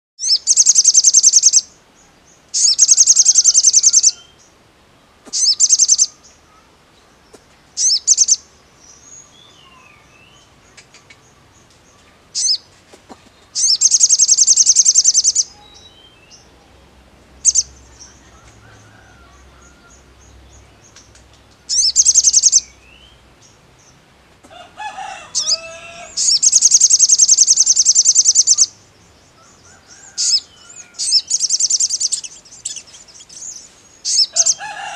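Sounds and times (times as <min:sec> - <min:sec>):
faint bird chirps: 0:00.2 - 0:04.5, 0:05.3 - 0:12.7, 0:13.3 - 0:16.8, 0:17.4 - 0:23.2, 0:25.3 - 0:28.8, 0:29.4 - 0:34.6
bird singing rapid trills: 0:00.2 - 0:04.6, 0:05.4 - 0:06.7, 0:07.8 - 0:12.6, 0:13.4 - 0:16.8, 0:17.4 - 0:24.0, 0:25.3 - 0:34.6.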